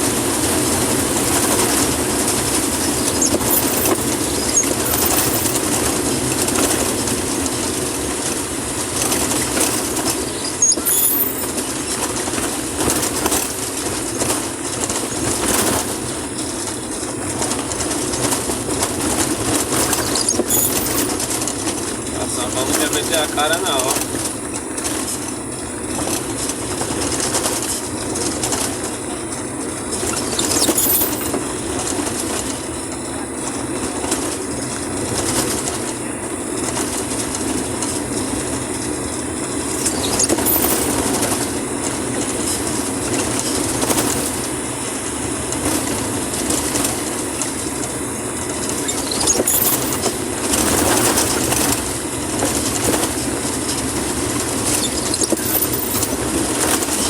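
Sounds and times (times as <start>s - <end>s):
vehicle rumble on dirt road: 0.0s - 57.0s.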